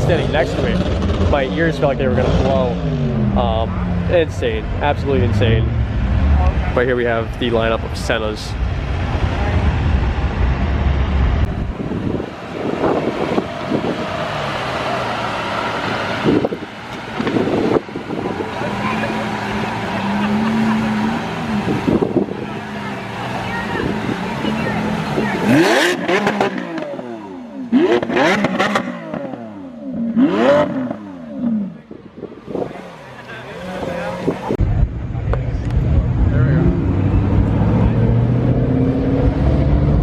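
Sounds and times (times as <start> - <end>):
car engine running: 0.0 - 38.4
exhaust crackles: 0.0 - 40.0
outdoor sound: 0.0 - 40.0.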